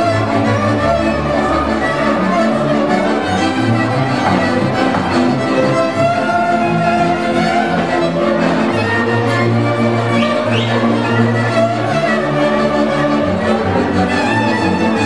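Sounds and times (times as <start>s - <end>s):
violins playing dance melody: 0.0s - 15.0s.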